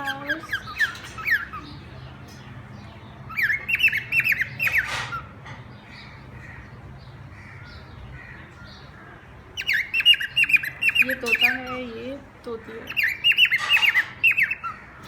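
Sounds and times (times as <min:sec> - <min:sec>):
parrots squawking: 0:00.0 - 0:02.0, 0:03.3 - 0:15.0.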